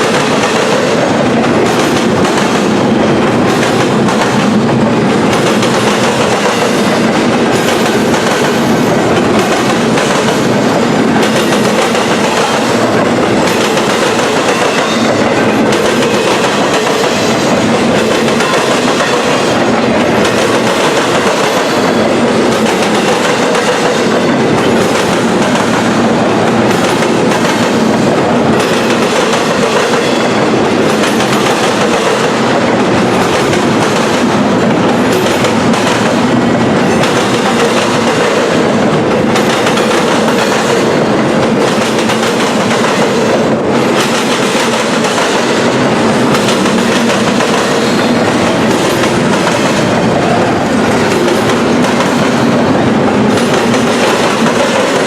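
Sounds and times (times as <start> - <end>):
freight train passing: 0.0 - 55.0
wheels clacking over rails: 0.0 - 55.0.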